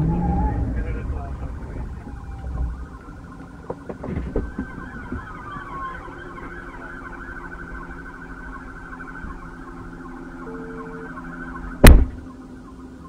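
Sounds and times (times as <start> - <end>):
police siren yelp: 0.0 - 13.0
vehicle noise: 0.0 - 13.0.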